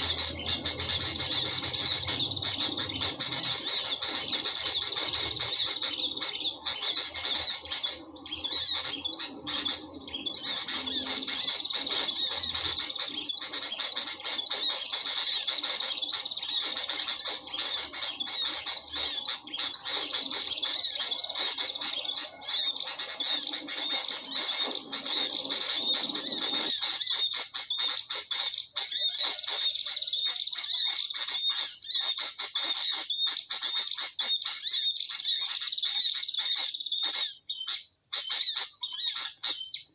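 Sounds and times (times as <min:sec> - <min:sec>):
small birds chirping and squawking: 0:00.0 - 0:39.9.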